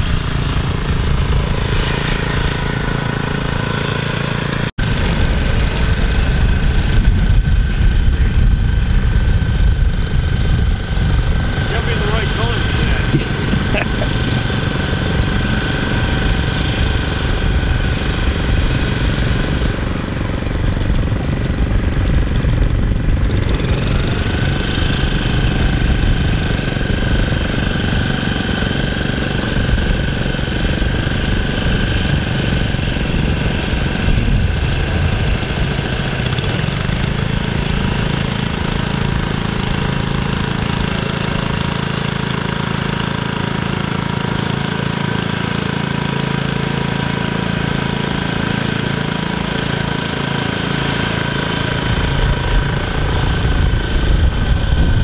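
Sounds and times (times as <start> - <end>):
lawn mower engines running: 0.0 - 55.0.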